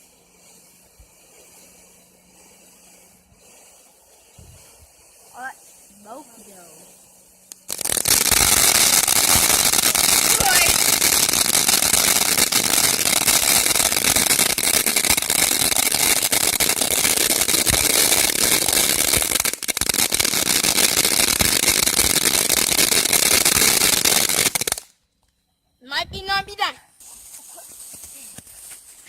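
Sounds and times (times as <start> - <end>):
firework hissing and crackling: 0.0 - 25.0, 26.4 - 29.0.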